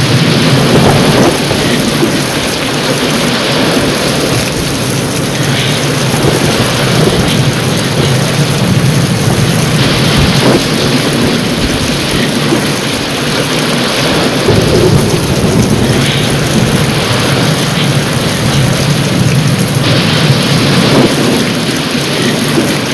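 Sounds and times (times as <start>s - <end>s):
heavy rain pouring: 0.0s - 22.9s
low rumble of thunder: 0.0s - 22.9s.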